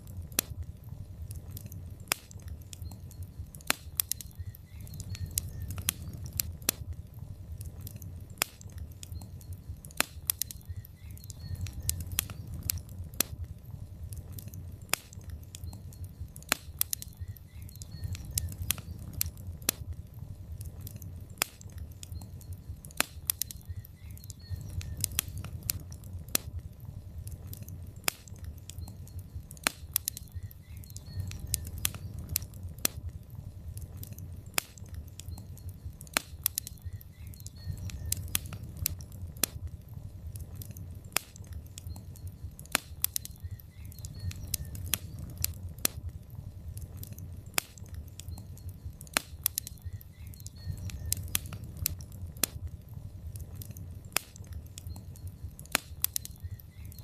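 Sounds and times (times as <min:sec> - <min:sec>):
log fire crackling and popping: 0:00.0 - 0:57.0
low rumble of flames: 0:00.0 - 0:57.0.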